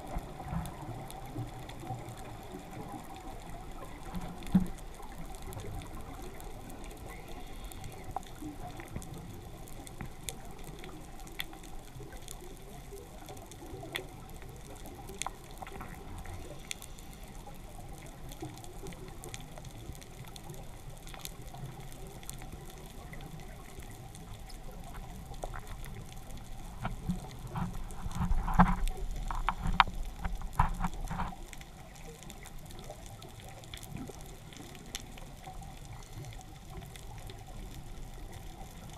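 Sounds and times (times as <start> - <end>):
muffled underwater hiss: 0.0 - 38.9.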